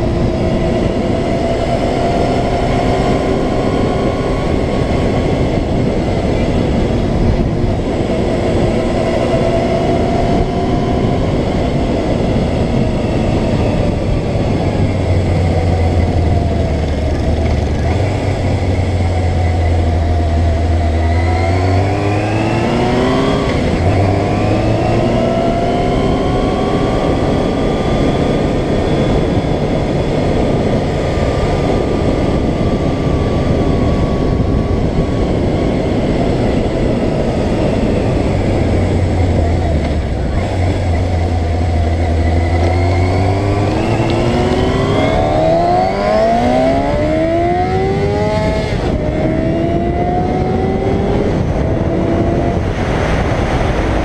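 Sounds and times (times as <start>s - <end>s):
motorcycle engine running: 0.0s - 54.0s
road noise: 0.0s - 54.0s
wind noise: 0.0s - 54.0s.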